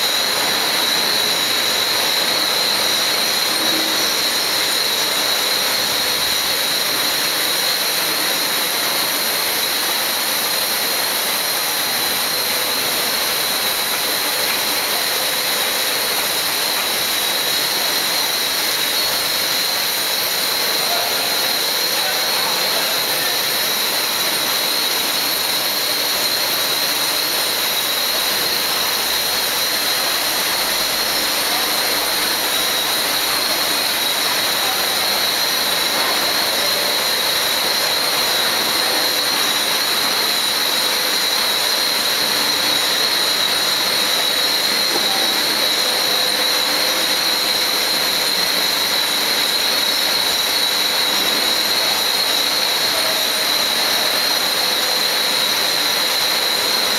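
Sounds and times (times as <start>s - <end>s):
casting machine hissing with whine: 0.0s - 56.9s.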